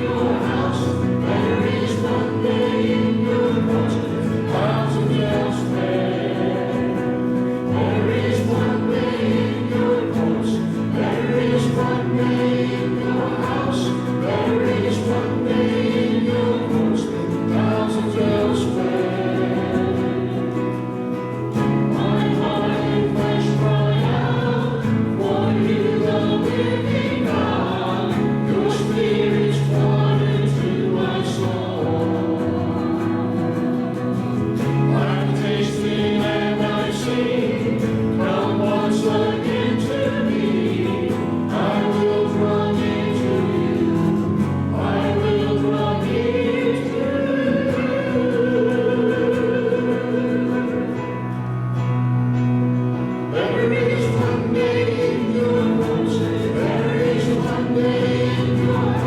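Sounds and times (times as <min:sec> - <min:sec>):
group singing a hymn: 0:00.0 - 0:59.0.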